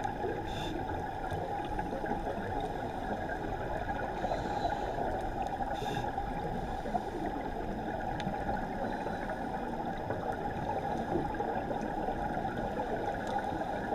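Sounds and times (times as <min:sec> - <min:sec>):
muffled underwater rushing: 0:00.0 - 0:13.9.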